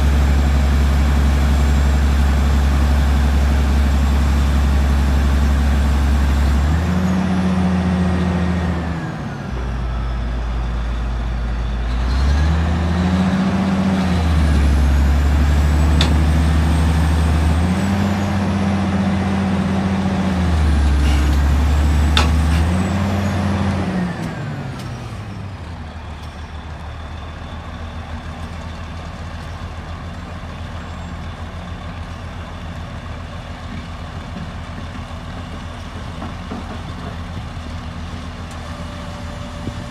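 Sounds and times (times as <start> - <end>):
heavy diesel engine revving: 0.0 - 34.8.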